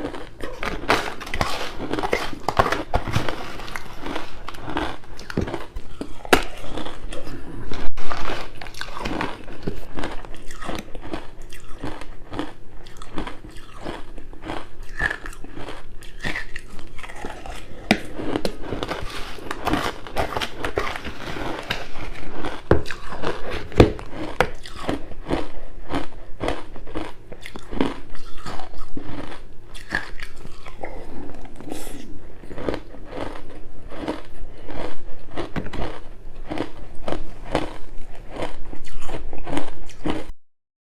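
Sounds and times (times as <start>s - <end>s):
chewing crunchy ice: 0.0s - 40.3s.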